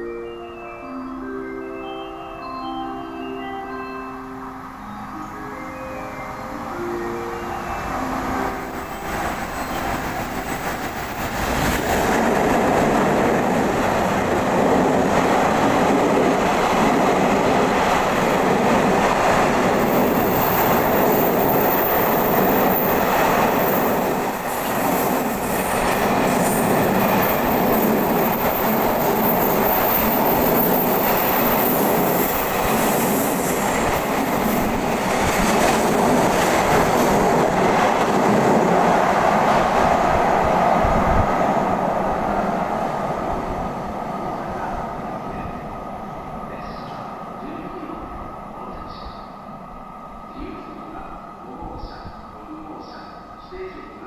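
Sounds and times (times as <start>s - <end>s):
train running on rails: 0.0s - 54.0s.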